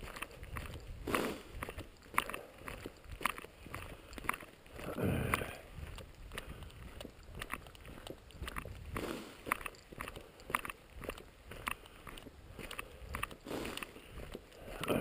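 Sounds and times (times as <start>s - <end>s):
footsteps on gravel: 0.0s - 15.0s.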